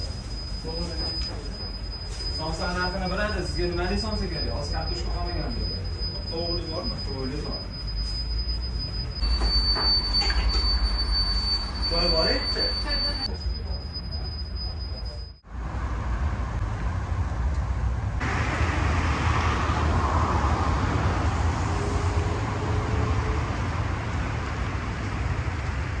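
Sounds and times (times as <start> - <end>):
road traffic rumble: 3.3 - 26.0.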